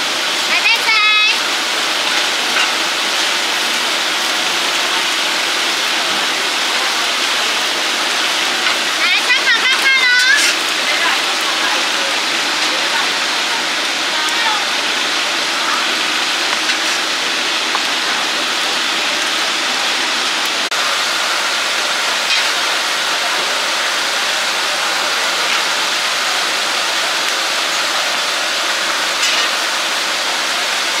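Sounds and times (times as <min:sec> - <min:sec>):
omelettes sizzling in oil: 0:00.0 - 0:31.0.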